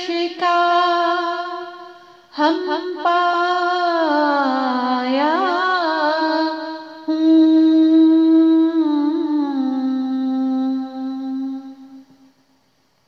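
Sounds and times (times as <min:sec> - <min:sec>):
woman singing unaccompanied: 0:00.0 - 0:12.3.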